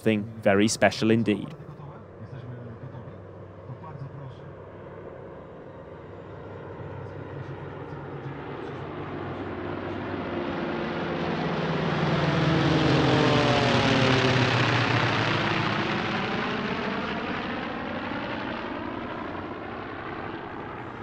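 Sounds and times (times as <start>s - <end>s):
propeller planes flying by: 0.0s - 21.0s.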